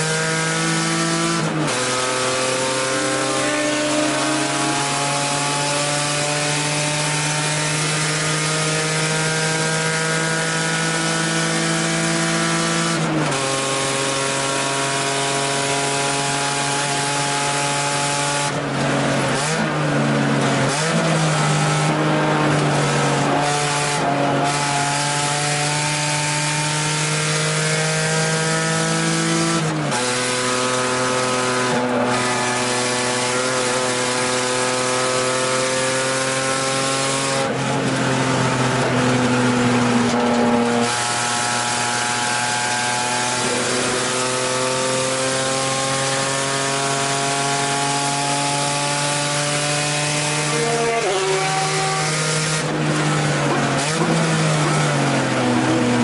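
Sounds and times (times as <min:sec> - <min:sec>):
race car engine under full throttle: 0:00.0 - 0:56.0.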